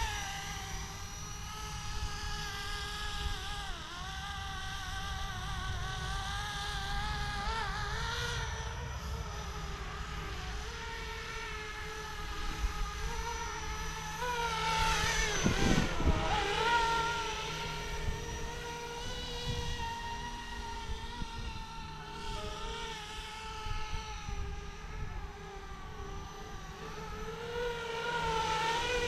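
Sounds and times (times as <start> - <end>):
rc helicopter rotor whine: 0.0 - 29.0.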